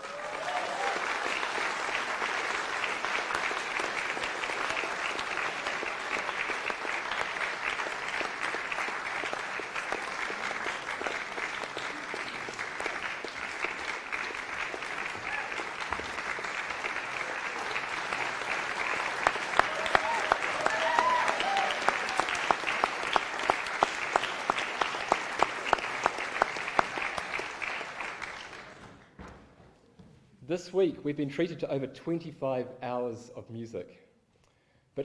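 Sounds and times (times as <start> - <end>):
audience applause: 0.0 - 29.1.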